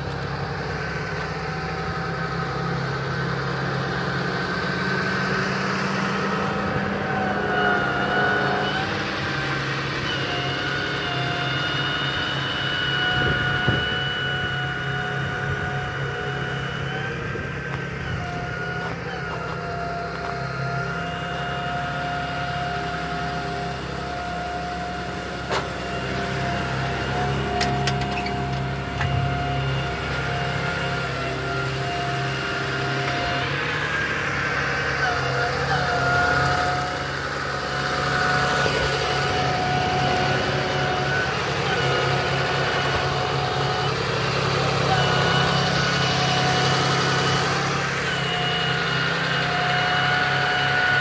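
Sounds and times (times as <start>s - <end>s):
steady whine: 0.0s - 51.0s
truck engine idling: 0.0s - 51.0s.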